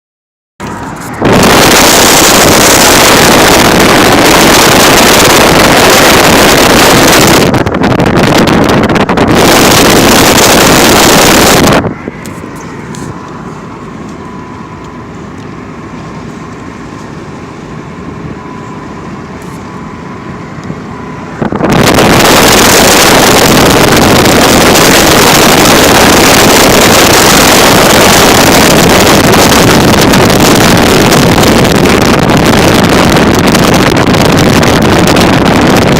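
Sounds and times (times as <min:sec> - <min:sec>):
motor hum: 0:00.6 - 0:35.9
wind buffeting microphone: 0:00.6 - 0:35.9.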